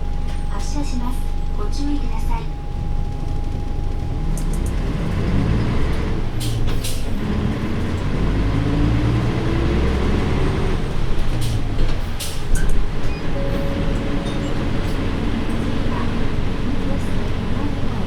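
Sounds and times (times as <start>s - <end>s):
bus diesel engine pulling: 0.0s - 18.0s.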